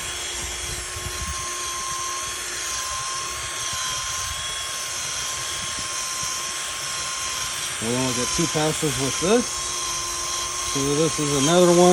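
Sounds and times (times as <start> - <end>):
power buffer whining: 0.0 - 11.9.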